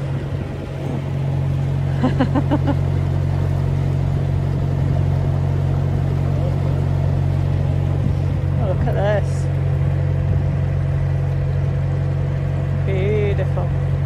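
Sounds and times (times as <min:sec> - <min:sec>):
boat diesel engine droning: 0:00.0 - 0:14.0.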